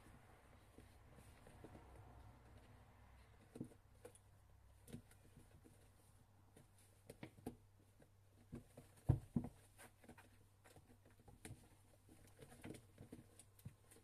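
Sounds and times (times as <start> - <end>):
kittens tapping and scuffing: 0.0 - 14.0.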